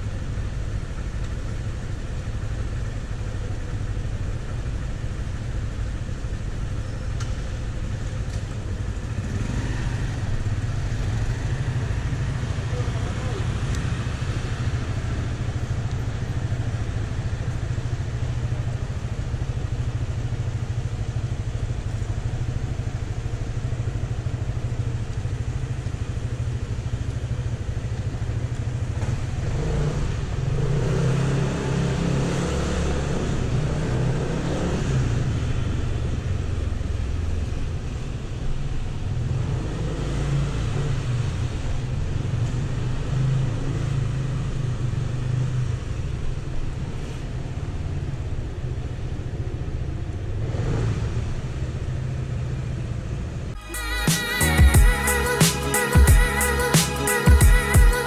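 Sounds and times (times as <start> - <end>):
scooter engine idling and revving: 0.0 - 58.0.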